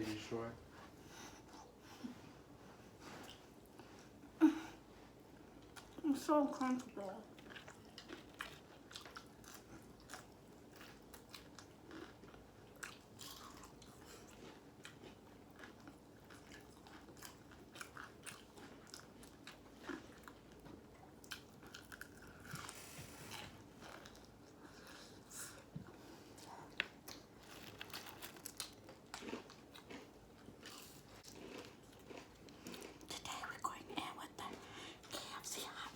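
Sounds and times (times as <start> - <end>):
crunching and chewing fried chicken: 5.3 - 35.9.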